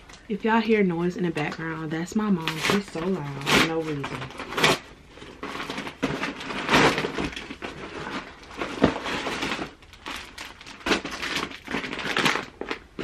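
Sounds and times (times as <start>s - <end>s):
packaging ripping and crinkling: 2.3s - 13.0s.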